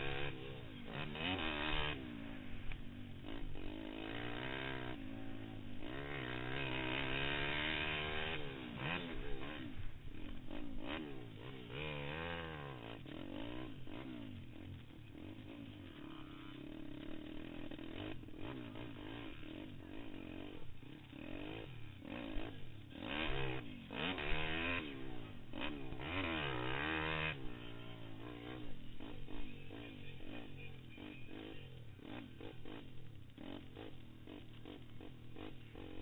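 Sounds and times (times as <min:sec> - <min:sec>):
small motorbike engine revving: 0:00.0 - 0:36.0.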